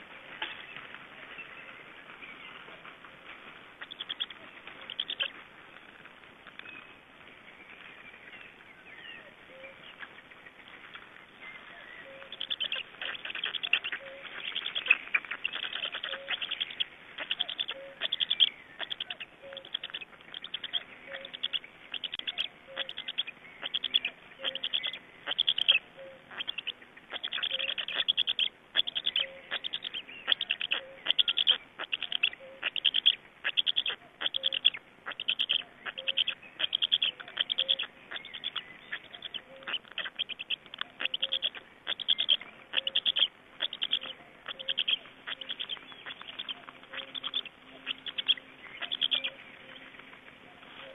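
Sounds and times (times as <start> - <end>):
distant birdsong: 0.0 - 50.9
stork chicks raspy begging calls: 3.8 - 5.4, 11.6 - 50.9.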